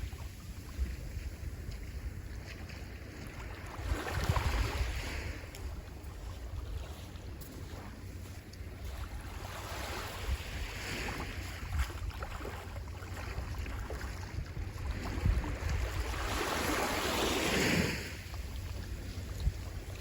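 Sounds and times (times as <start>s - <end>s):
sea waves washing onto shore: 0.0s - 20.0s
wind rumble on microphone: 0.0s - 20.0s.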